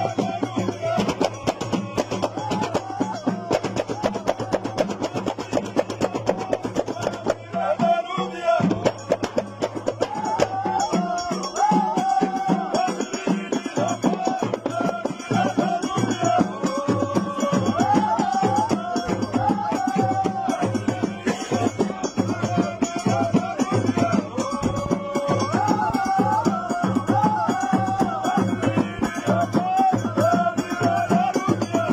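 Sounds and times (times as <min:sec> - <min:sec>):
frame drums beating: 0:00.0 - 0:31.9.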